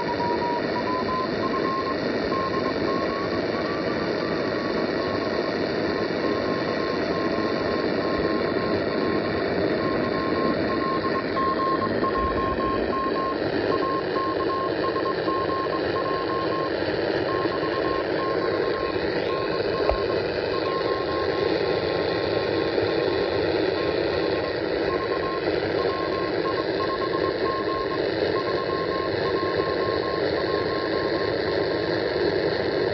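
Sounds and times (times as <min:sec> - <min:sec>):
morse code beeping tone: 0:00.0 - 0:09.2, 0:09.8 - 0:22.4, 0:23.2 - 0:31.1
radio static hiss: 0:00.0 - 0:32.9.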